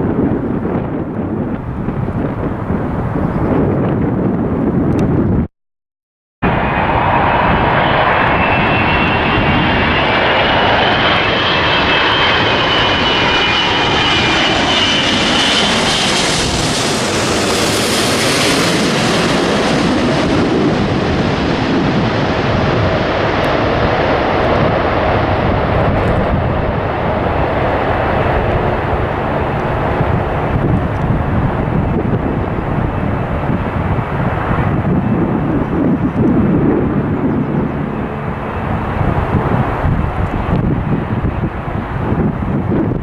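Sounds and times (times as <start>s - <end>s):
jet airliner passing: 0.0s - 5.5s, 6.4s - 43.0s.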